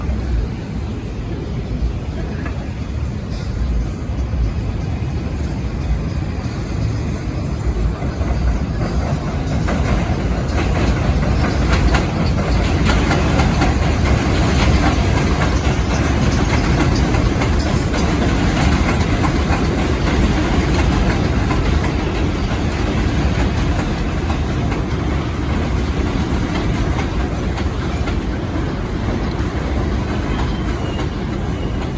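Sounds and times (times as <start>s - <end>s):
subway train wheels clattering: 0.0s - 31.9s.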